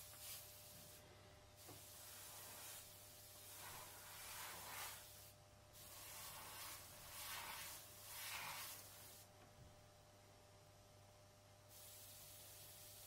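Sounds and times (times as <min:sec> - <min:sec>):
airbrush air hiss: 0:00.0 - 0:09.3, 0:11.7 - 0:13.0.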